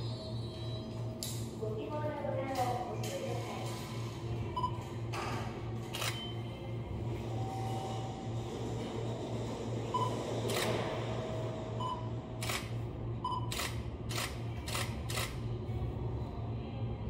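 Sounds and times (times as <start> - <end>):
train equipment pulsing hum: 0.0 - 17.0.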